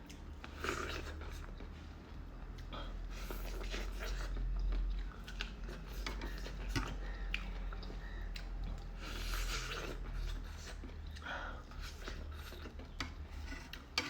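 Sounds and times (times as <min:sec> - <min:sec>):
person chewing noodles: 0:00.0 - 0:14.0.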